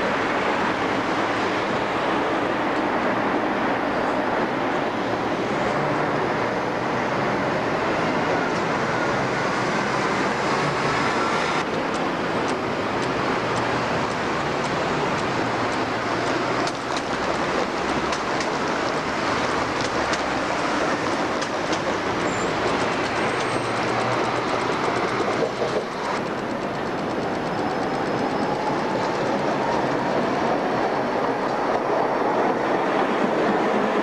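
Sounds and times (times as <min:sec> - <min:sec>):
tram running on rails: 0:00.0 - 0:34.0
vehicles passing over tram tracks: 0:00.0 - 0:34.0.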